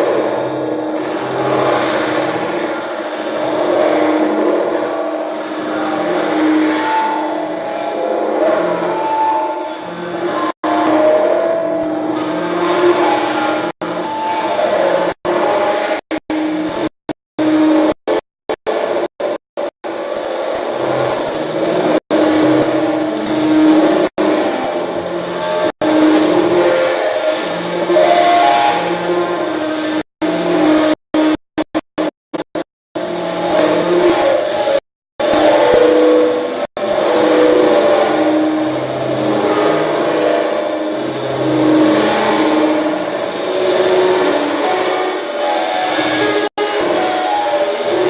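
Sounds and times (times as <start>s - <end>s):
buzzing synthesizer tones: 0.0s - 48.0s
electronic noise drone: 0.0s - 48.0s.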